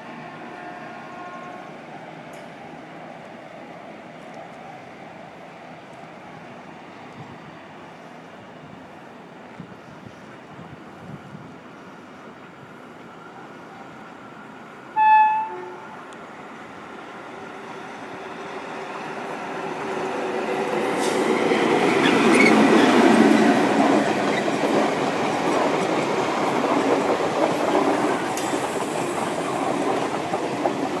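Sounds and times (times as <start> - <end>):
train wheels on rails: 1.8 - 31.0.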